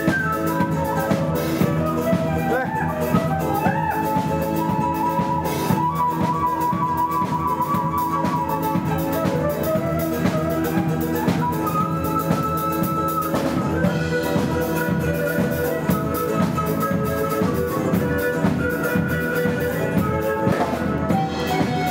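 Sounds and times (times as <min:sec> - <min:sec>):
held melody notes: 0:00.0 - 0:21.9
steady drum beat: 0:00.0 - 0:21.9.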